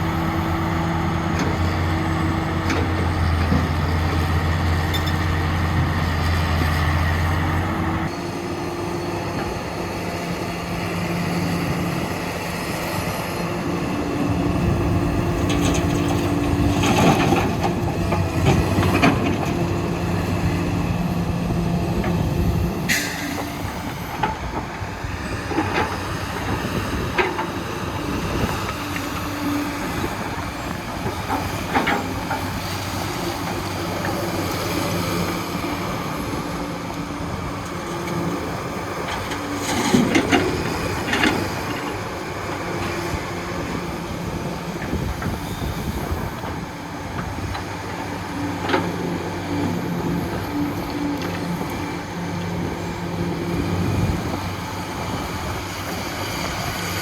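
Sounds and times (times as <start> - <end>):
diesel engines of heavy machinery: 0.0 - 57.0.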